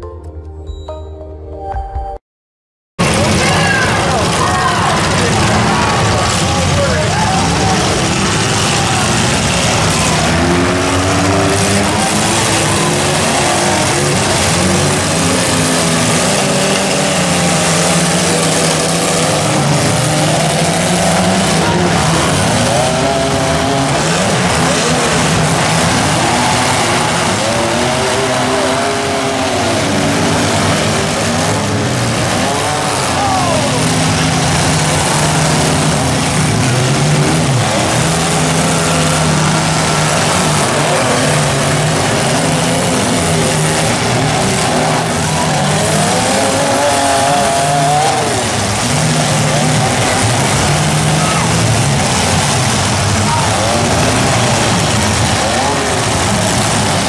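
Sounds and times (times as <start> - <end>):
car engines revving: 3.0 - 57.0.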